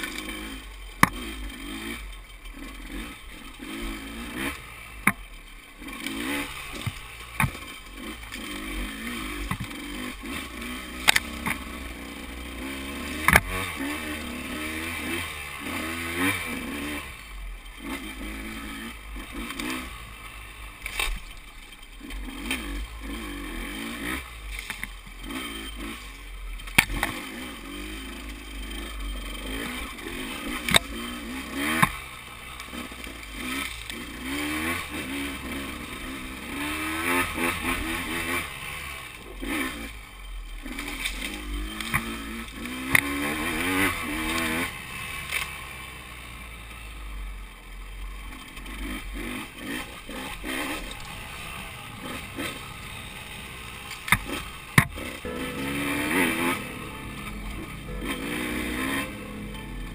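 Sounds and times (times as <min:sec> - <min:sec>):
dirt bike engine revving: 0:00.0 - 0:45.9, 0:48.3 - 0:59.9.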